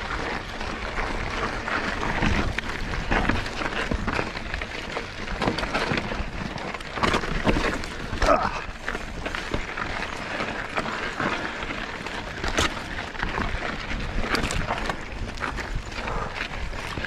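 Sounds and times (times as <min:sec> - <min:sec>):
bike knocking and rattling: 0:00.0 - 0:17.0
bike tyres crunching on gravel: 0:00.0 - 0:17.0.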